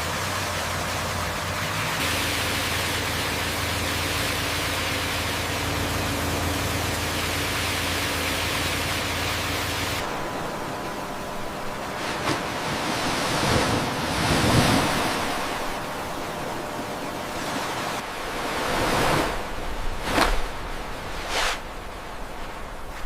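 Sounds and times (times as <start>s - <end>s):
waves and surf washing: 0.0s - 23.0s.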